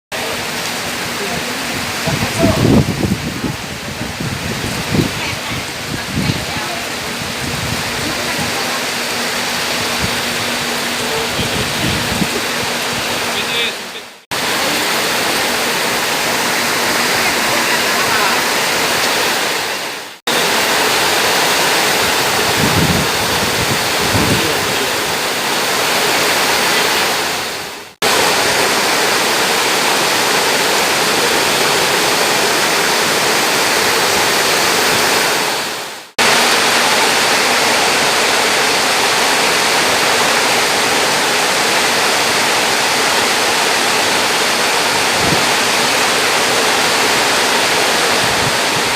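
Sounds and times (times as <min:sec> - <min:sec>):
heavy rain pouring: 0:00.1 - 0:48.9.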